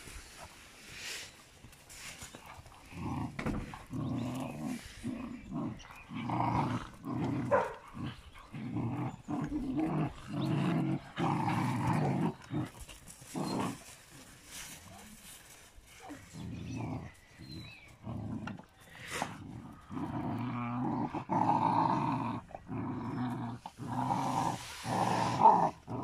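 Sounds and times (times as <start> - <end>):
dogs play-growling: 1.7 - 15.0, 15.8 - 26.0.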